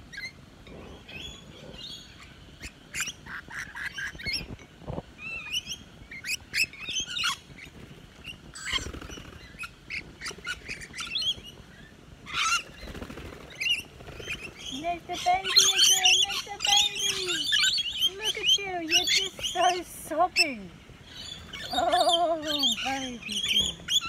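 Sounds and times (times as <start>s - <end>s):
parrots chattering and screeching: 0.0s - 4.6s, 5.2s - 24.0s.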